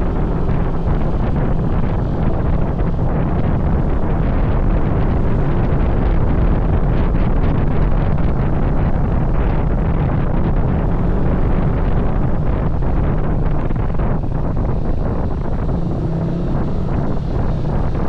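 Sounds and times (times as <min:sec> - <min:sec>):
moving vehicle low rumble: 0:00.0 - 0:18.0
wind buffeting the microphone: 0:00.0 - 0:18.0.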